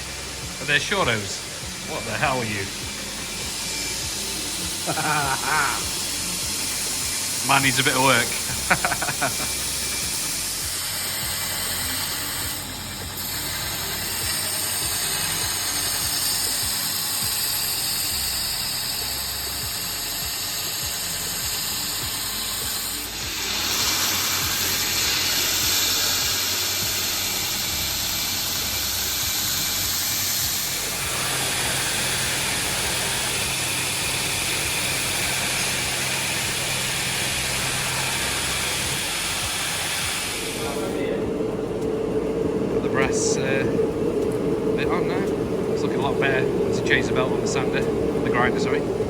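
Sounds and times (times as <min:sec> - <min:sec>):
workshop machinery hissing: 0:00.0 - 0:49.0.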